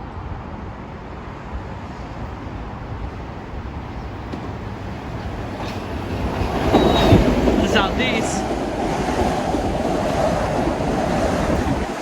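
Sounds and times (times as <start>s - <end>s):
electric train approaching: 0.2s - 12.0s.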